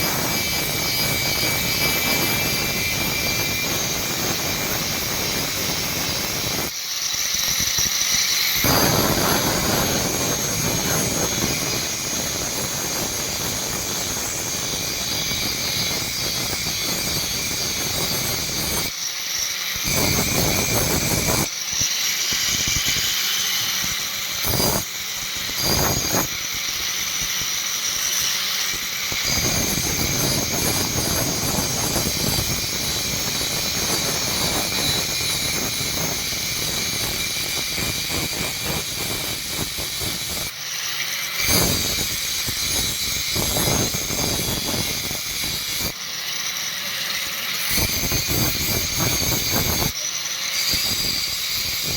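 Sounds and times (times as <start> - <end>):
workshop machine whining: 0.0 - 51.9.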